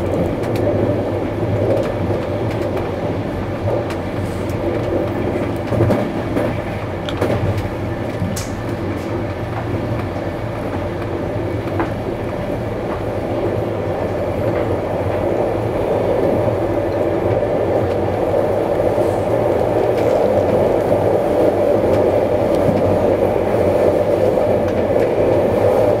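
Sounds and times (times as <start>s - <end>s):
rumble of wheels on rail: 0.0s - 26.0s.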